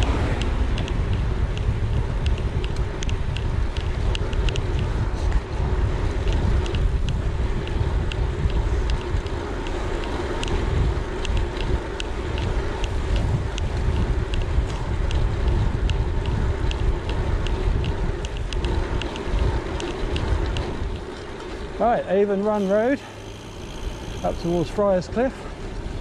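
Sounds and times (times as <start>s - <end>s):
light sharp ticking: 0.0s - 25.3s
wind buffeting microphone: 0.0s - 26.0s.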